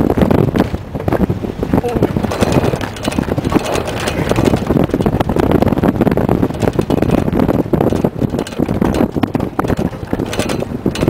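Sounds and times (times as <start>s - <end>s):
off-road vehicle engine running: 0.0s - 11.0s
wind buffeting microphone: 0.0s - 11.0s
vehicle body rattling: 0.2s - 11.0s.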